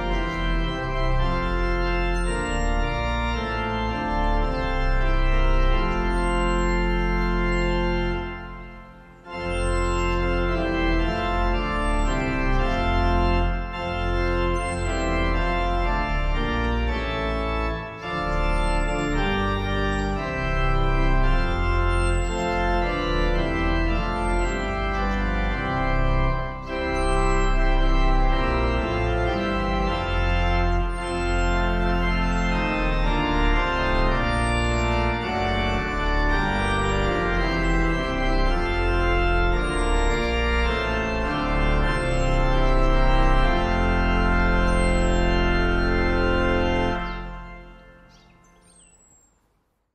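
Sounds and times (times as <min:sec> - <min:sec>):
organ sustained chords: 0:00.0 - 0:49.4.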